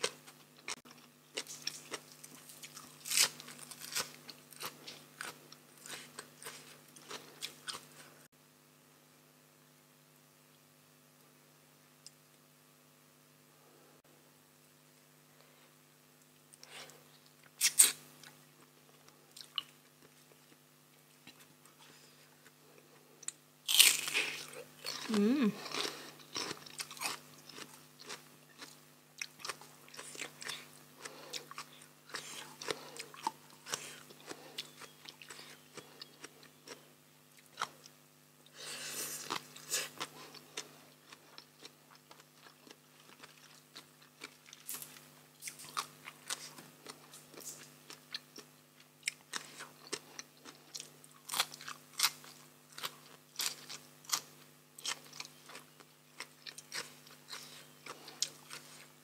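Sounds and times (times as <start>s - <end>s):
crunching food: 0.0s - 8.2s, 16.3s - 59.0s.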